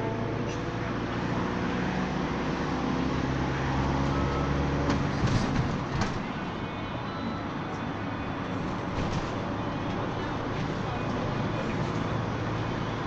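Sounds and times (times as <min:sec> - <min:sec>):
minibus engine drone: 0:00.0 - 0:13.0
road noise: 0:00.0 - 0:13.0.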